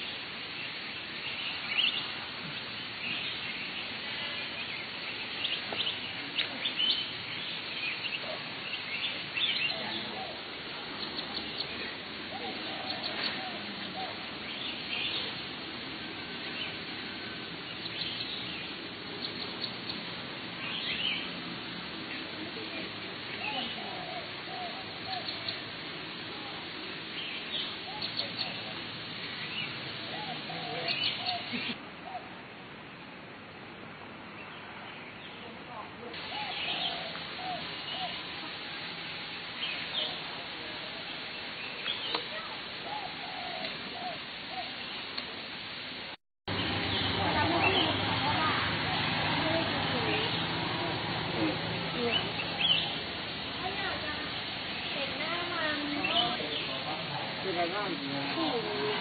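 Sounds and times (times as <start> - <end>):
birds chirping: 0.0 - 33.0, 34.2 - 59.0
steady background hiss: 0.0 - 59.0.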